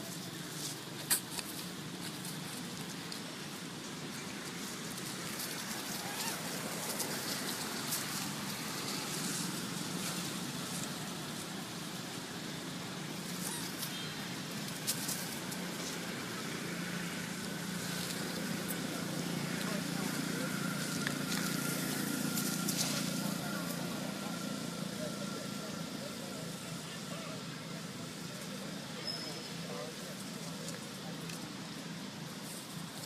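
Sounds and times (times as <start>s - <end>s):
dry leaves rustling: 0.0s - 33.0s.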